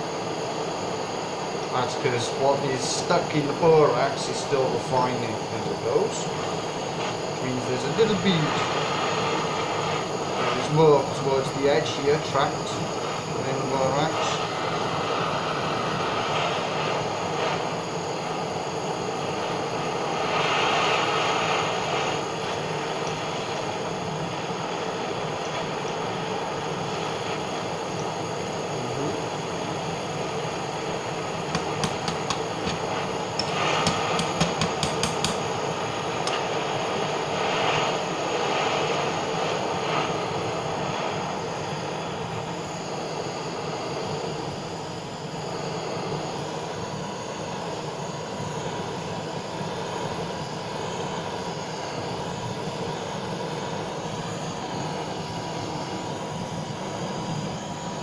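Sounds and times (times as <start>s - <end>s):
blowtorch flame hissing: 0.0s - 58.0s.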